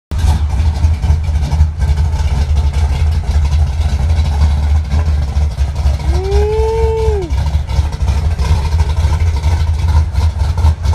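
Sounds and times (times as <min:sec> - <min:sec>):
truck engine rumbling: 0:00.1 - 0:10.9.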